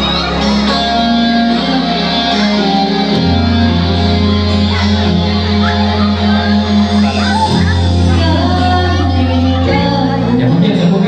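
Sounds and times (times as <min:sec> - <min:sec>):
guitar music: 0:00.0 - 0:11.0
sustained bass line: 0:00.0 - 0:11.0.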